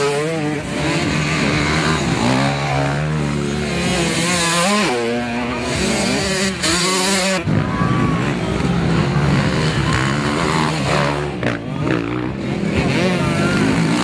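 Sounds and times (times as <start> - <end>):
motocross engines revving: 0.0 - 14.0.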